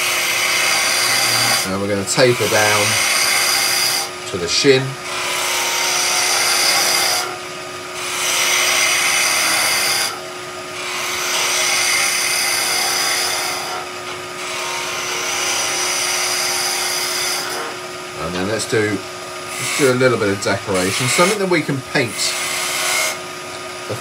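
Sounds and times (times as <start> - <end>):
chisel hissing on turning wood: 0.0 - 7.4, 8.0 - 10.2, 10.8 - 23.2
lathe humming: 0.0 - 24.0.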